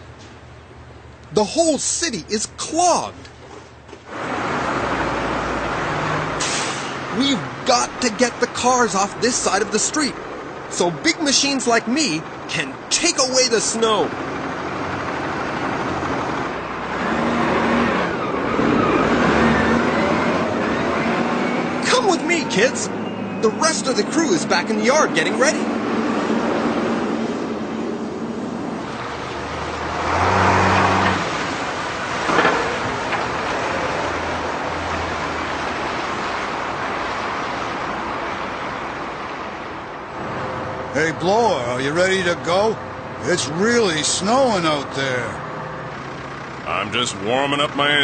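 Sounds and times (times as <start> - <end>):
vehicle engines running: 0.0 - 48.0.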